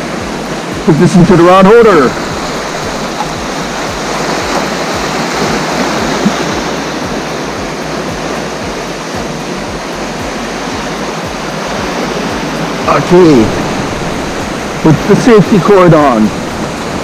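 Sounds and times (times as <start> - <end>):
ocean surf on rocks: 0.0 - 17.0.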